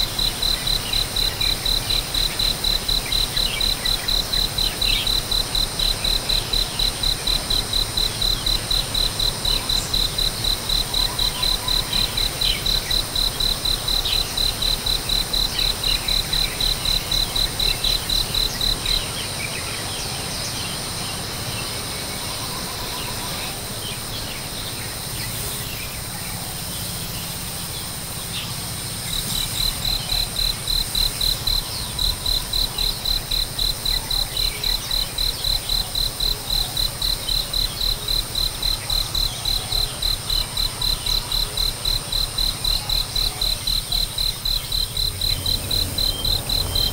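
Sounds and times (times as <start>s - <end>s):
high-pitched insect whine: 0.0s - 46.9s
insects chirping in pulses: 0.0s - 46.9s.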